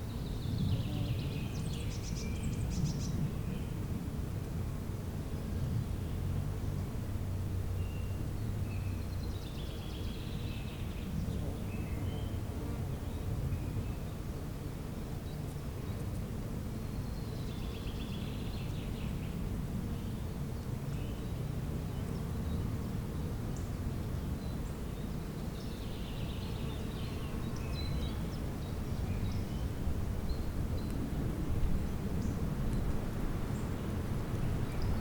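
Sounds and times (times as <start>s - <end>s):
birds singing faintly: 0.0s - 4.0s, 5.2s - 35.0s.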